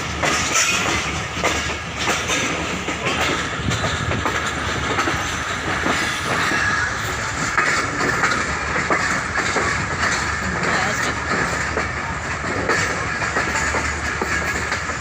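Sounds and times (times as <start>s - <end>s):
train wheel screech: 0.0s - 3.6s, 4.3s - 15.0s
train rumble: 0.0s - 15.0s
train wheels clacking over rails: 0.0s - 15.0s.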